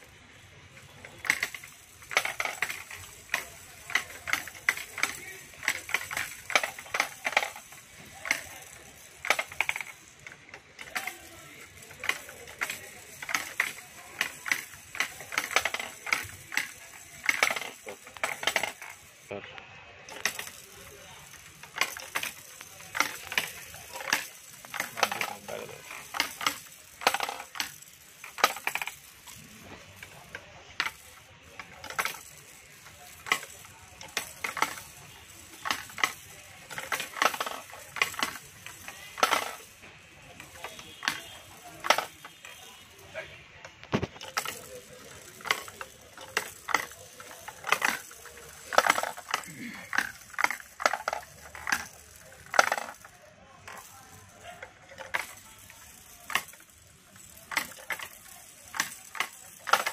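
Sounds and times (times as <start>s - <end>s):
plastic balls rattling down a toy: 0.0s - 59.9s.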